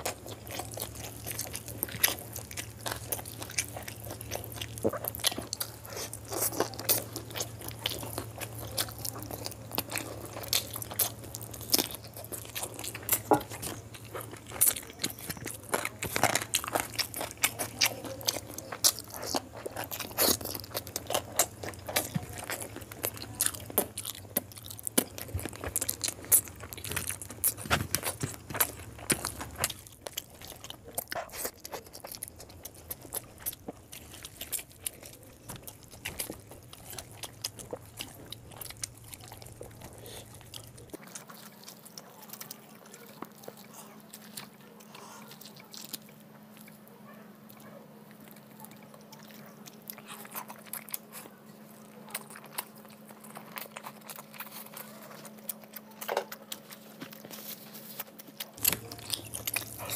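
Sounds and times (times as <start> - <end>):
chewing and lip-smacking: 0.0 - 59.9
fingers mixing wet rice: 0.0 - 59.9
low steady hum: 0.0 - 59.9.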